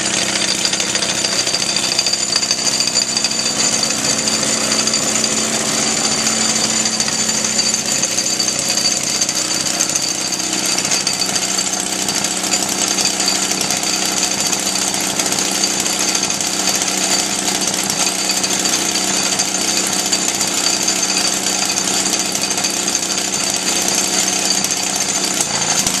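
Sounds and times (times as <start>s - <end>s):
two-stroke engine running: 0.0s - 26.0s.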